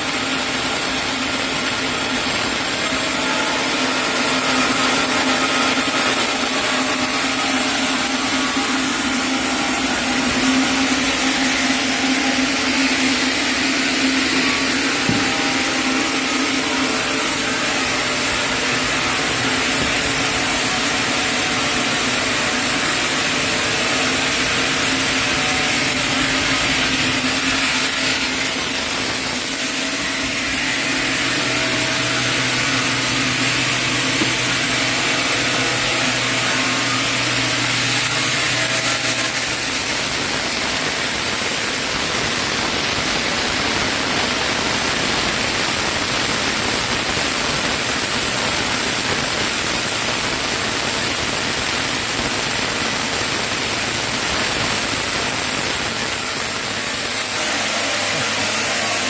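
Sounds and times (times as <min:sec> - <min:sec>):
sawmill saw cutting log: 0:00.0 - 0:59.0.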